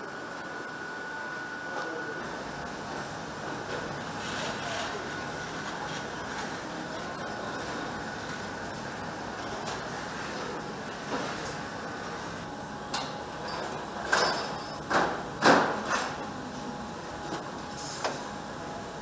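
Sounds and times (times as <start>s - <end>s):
factory hum: 0.0s - 19.0s.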